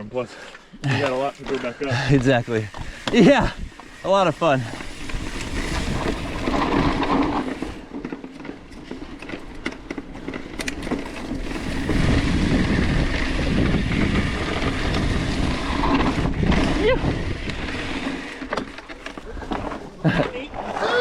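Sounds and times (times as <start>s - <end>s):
bike rattling: 0.0s - 21.0s
bike tyres rumbling over dirt: 0.0s - 21.0s.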